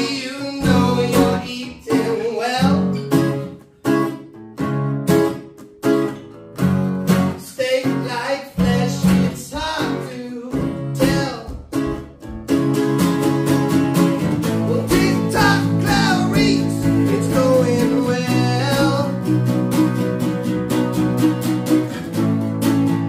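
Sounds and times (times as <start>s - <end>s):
acoustic guitars playing: 0.0s - 23.0s.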